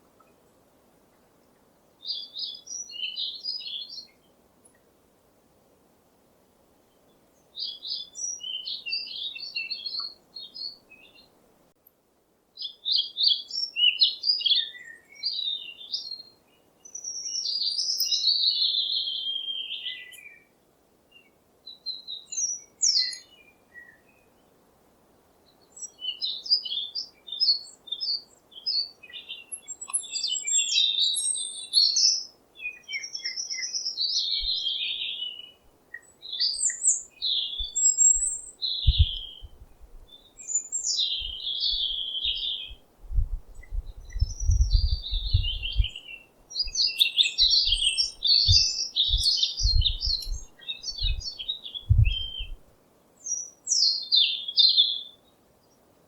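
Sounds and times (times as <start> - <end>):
faint background hiss: 0.0 - 56.0
small birds chirping: 1.5 - 4.9, 6.9 - 11.3, 12.6 - 24.6, 25.4 - 52.6, 53.2 - 55.9.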